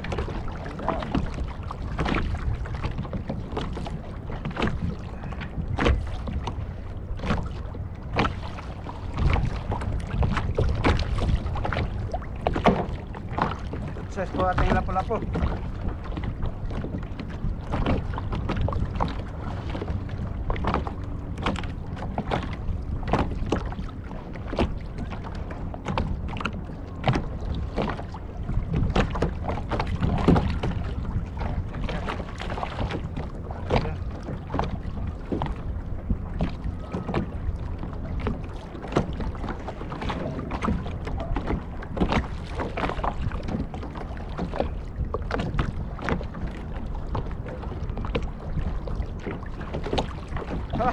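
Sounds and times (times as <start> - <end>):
knocks and splashes against hull: 0.0 - 50.9
water wash: 0.0 - 50.9
wind: 0.0 - 50.9.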